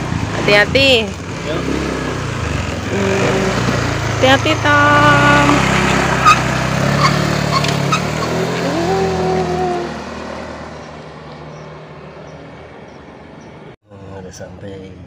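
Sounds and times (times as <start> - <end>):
motorcycle engine riding off: 0.0 - 13.7.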